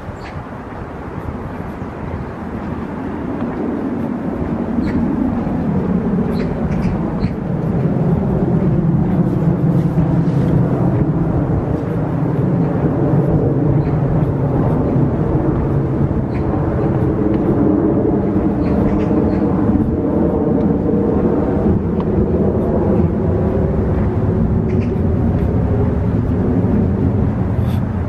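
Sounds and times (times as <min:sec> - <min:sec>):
rumble of distant engines: 0:00.0 - 0:28.0.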